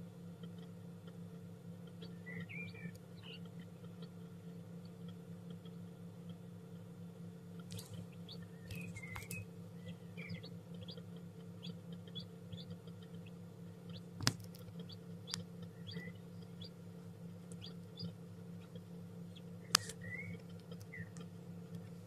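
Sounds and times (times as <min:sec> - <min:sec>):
steady low hum: 0:00.0 - 0:22.0
chick peeping: 0:00.2 - 0:22.0.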